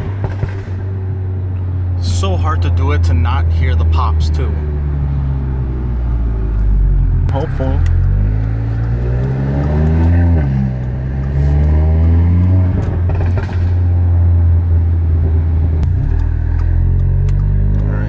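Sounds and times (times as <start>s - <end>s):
turbocharged car accelerating: 0.0s - 18.0s.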